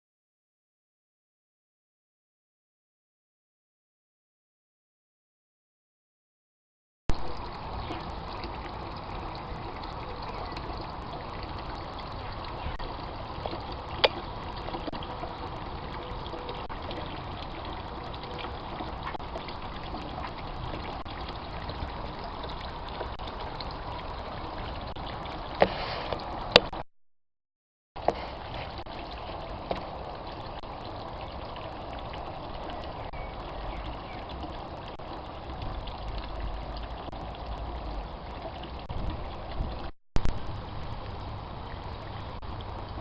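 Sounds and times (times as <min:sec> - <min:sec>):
water trickling: 0:07.1 - 0:26.8, 0:28.0 - 0:43.0.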